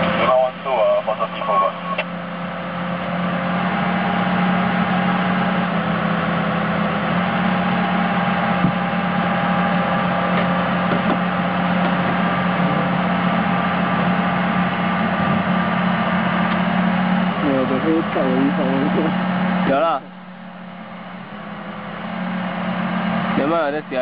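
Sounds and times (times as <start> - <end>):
excavator diesel engine running: 0.0 - 24.0
faint steady whine: 0.0 - 24.0.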